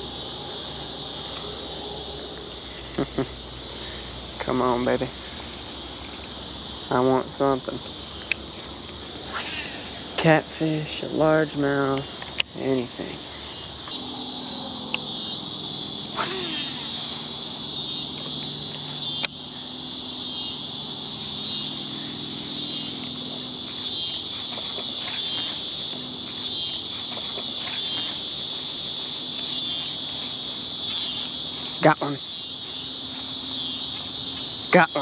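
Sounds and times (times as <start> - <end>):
insects buzzing: 0.0 - 35.0.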